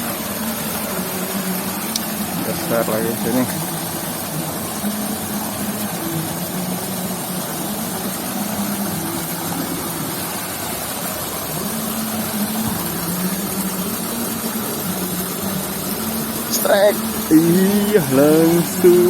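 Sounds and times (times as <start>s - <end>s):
constant rushing noise: 0.0s - 19.0s.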